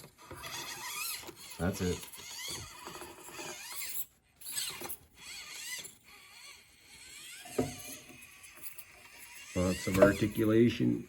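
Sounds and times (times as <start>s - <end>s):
rc car motor whining: 0.0s - 11.0s.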